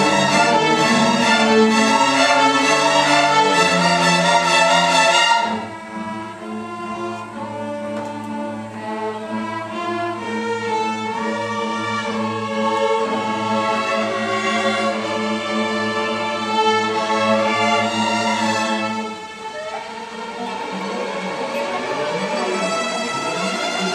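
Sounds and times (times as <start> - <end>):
string orchestra playing: 0.0 - 23.9.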